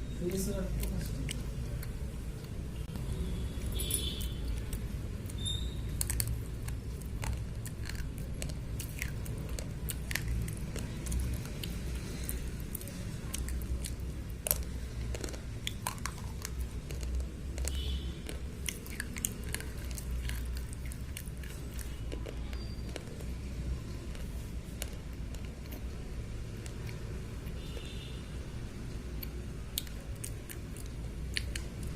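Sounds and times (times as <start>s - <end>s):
crunching chewing clicks: 0.3s - 28.0s, 29.0s - 31.9s.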